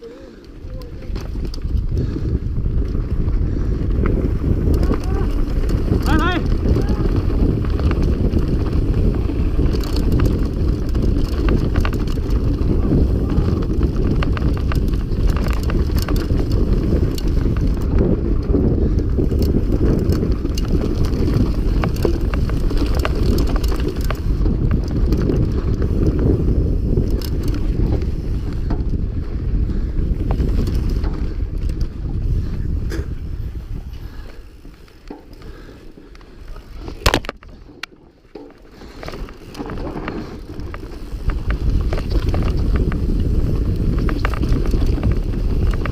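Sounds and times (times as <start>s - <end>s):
mountain bike rattling over trail: 0.0s - 45.9s
wind buffeting microphone: 0.0s - 45.9s.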